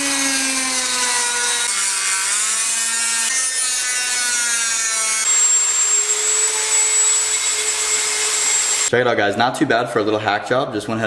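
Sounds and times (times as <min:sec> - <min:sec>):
rotary tool cutting plastic: 0:00.0 - 0:08.9.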